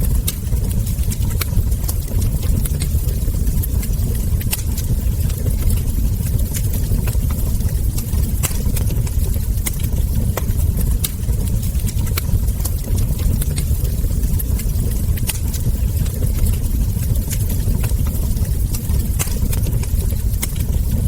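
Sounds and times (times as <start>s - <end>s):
low rumble: 0.0s - 21.0s
wood fire crackling: 0.0s - 21.0s.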